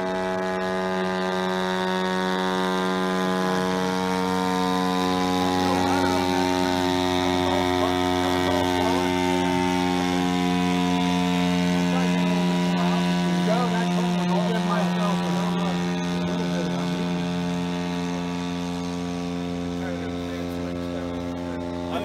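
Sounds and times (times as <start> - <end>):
model aircraft engine drone: 0.0 - 22.0.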